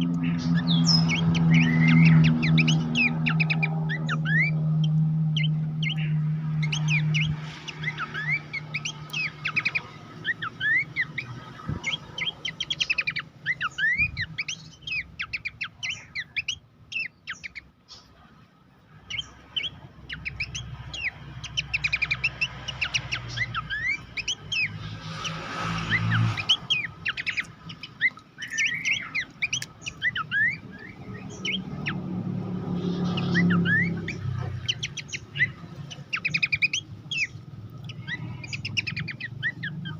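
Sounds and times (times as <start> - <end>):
bird chirps and whistles: 0.0 - 18.0, 19.1 - 32.0, 32.8 - 39.9.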